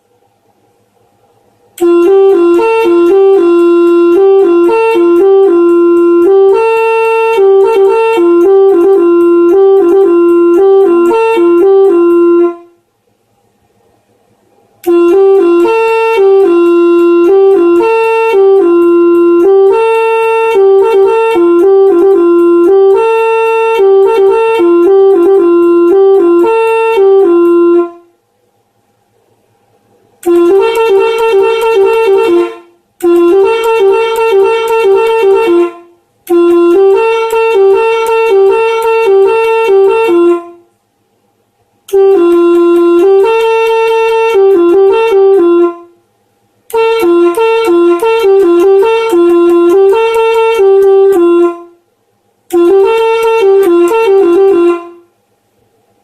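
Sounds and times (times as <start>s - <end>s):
multi-tone air horn jingle: 1.8s - 12.8s, 14.8s - 28.1s, 30.2s - 40.6s, 41.9s - 45.9s, 46.7s - 51.7s, 52.5s - 55.1s.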